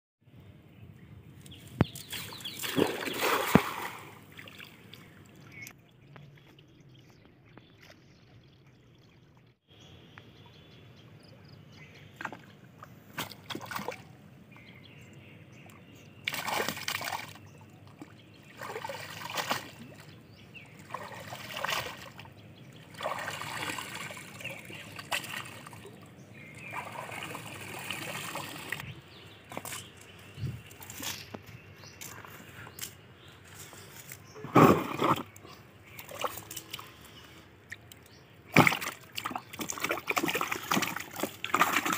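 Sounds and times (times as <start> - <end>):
water splashing and sloshing: 1.6 - 9.7, 12.1 - 14.7, 15.6 - 32.9, 33.5 - 41.9.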